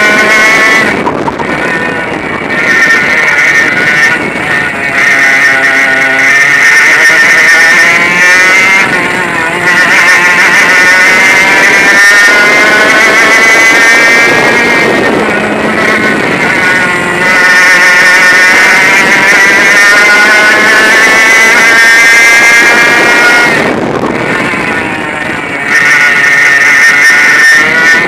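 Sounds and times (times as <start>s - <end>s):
kart engine buzzing: 0.0s - 28.0s.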